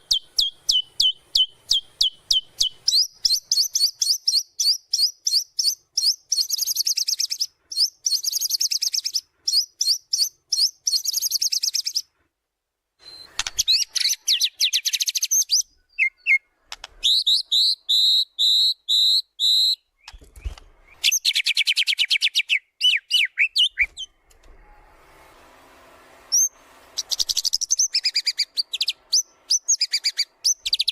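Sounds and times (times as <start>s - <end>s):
songbird trills and whistles: 0.0s - 12.1s, 13.0s - 24.1s, 26.3s - 30.9s.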